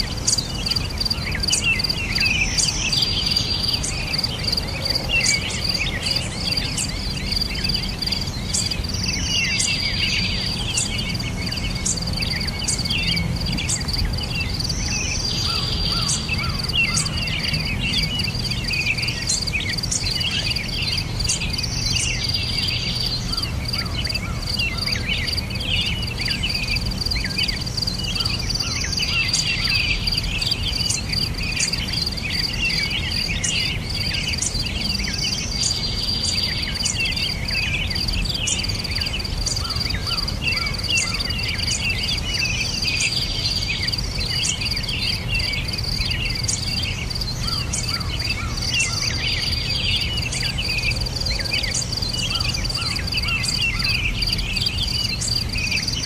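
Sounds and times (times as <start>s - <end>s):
bird chirps and twitters: 0.0s - 56.0s
crickets trilling: 0.0s - 56.0s.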